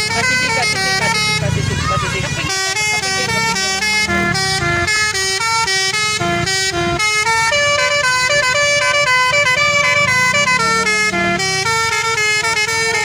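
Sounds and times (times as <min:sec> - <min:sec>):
multi-tone bus horn playing a tune: 0:00.0 - 0:13.0.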